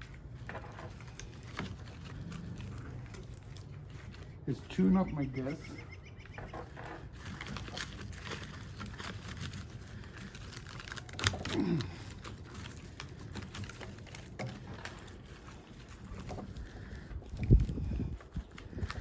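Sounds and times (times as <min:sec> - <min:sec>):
clicking crackling and scraping: 0:00.0 - 0:04.8, 0:05.5 - 0:19.0.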